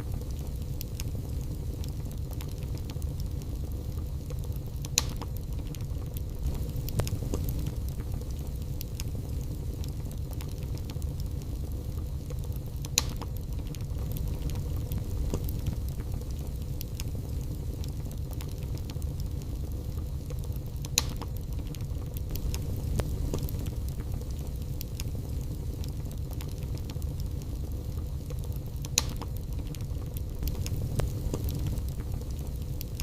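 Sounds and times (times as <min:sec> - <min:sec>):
fire flames rumbling: 0:00.0 - 0:33.0
logs crackling and popping: 0:00.0 - 0:33.0.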